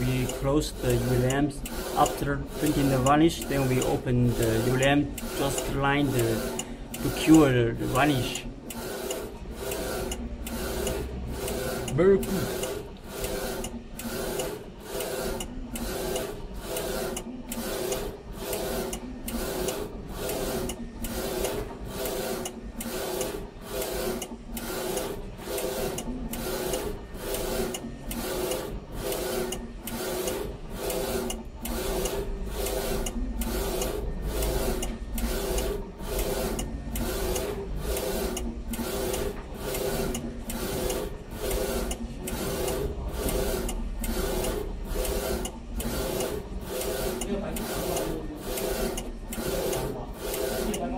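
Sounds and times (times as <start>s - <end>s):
printer carriage drive whining: 0.0s - 50.9s.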